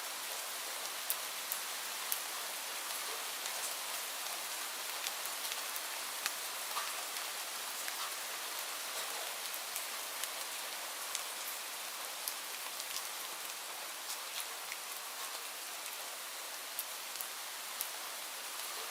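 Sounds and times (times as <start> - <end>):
light rain hissing: 0.0 - 18.9.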